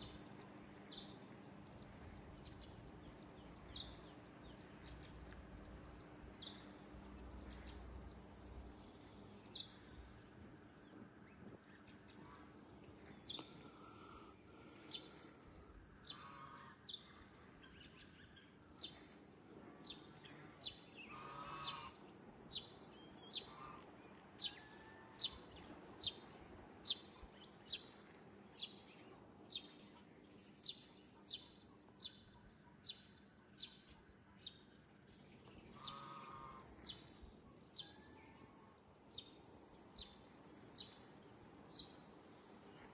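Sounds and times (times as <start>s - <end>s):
faint steady background hum: 0.0s - 42.9s
lower fuller bird calls: 0.0s - 42.9s.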